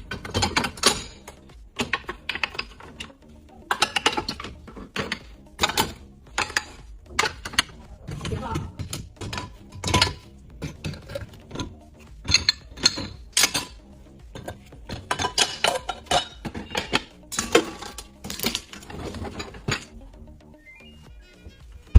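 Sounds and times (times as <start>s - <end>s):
dishes and cutlery clinking: 0.0s - 20.0s
background music: 0.0s - 21.9s.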